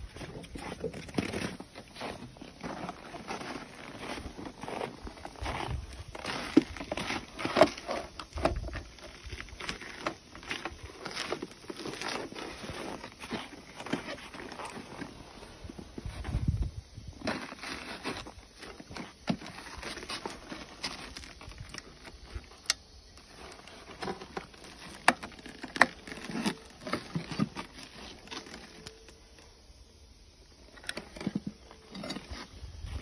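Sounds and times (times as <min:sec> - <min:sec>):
rustling handling noise: 0:00.0 - 0:33.0.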